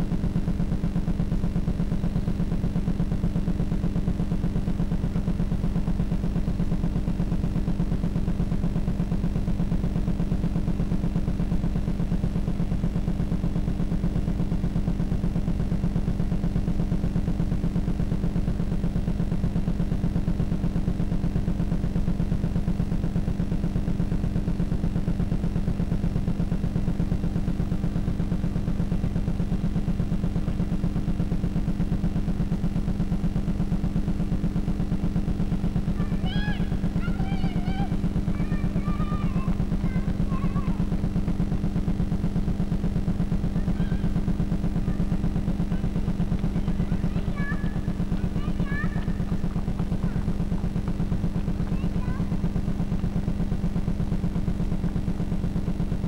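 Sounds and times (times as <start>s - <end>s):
steady low tape hum: 0.0s - 56.0s.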